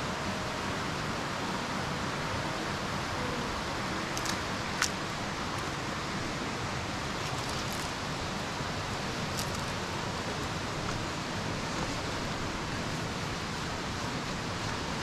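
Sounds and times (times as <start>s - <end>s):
steady outdoor rushing noise: 0.0s - 15.0s.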